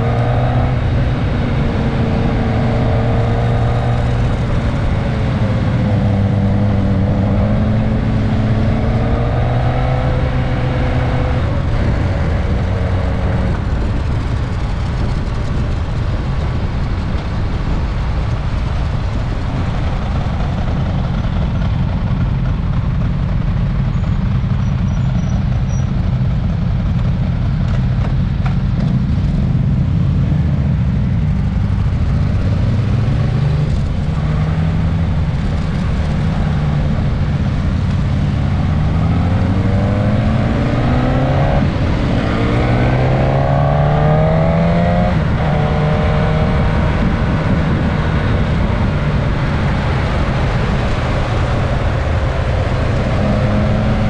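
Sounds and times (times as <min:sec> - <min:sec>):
motorcycle engine revving: 0:00.0 - 0:16.0, 0:19.2 - 0:54.0
road noise: 0:00.0 - 0:54.0
wind noise: 0:00.0 - 0:54.0.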